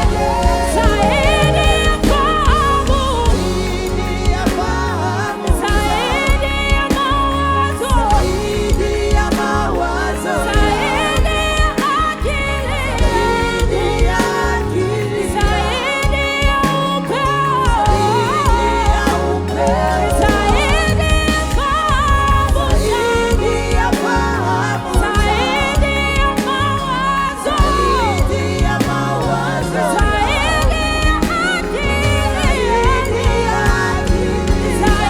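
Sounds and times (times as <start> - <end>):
gospel band playing: 0.0 - 35.0
people singing long notes: 0.0 - 35.0.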